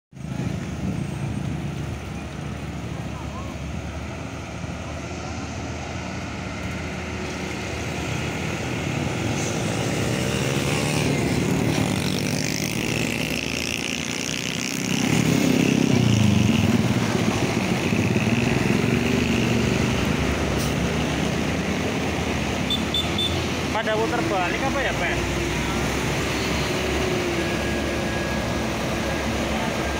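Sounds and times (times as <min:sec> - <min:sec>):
heavy trucks climbing uphill: 0:00.1 - 0:29.9
motorcycles passing: 0:00.2 - 0:29.9.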